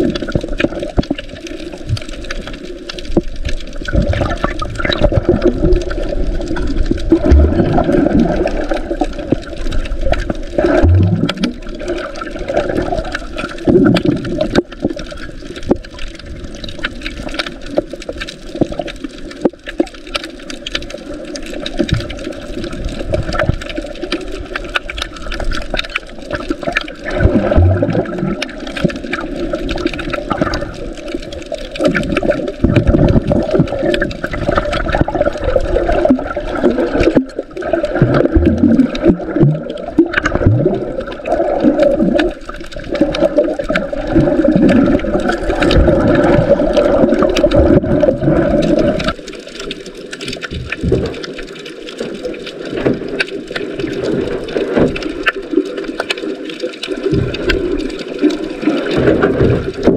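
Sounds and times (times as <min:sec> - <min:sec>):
muffled underwater water noise: 0:00.0 - 0:59.9.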